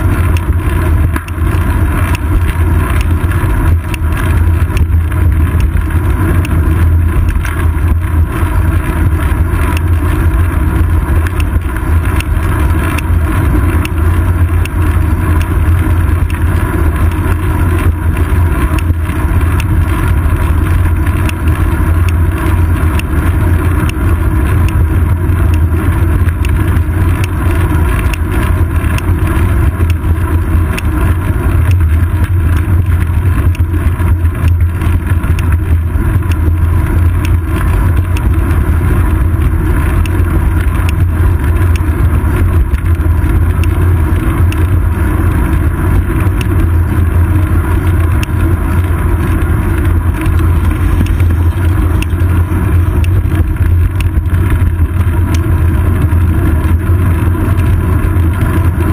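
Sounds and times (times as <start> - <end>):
bicycle tyre road noise: 0.0 - 58.9.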